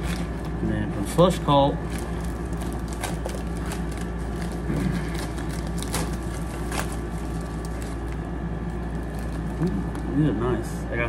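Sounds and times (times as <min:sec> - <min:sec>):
packaging clicking and crinkling: 0:00.0 - 0:00.6, 0:01.7 - 0:10.1
steady low hum: 0:00.0 - 0:11.0.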